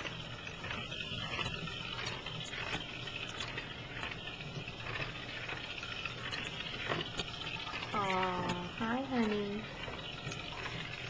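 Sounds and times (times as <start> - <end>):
plastic ball rolling on wooden floor: 0.0 - 11.0
small motor whirring: 0.0 - 11.0.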